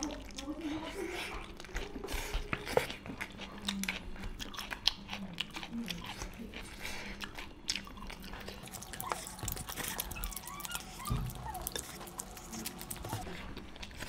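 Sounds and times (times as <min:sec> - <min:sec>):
people chewing and mouth noises: 0:00.0 - 0:14.0.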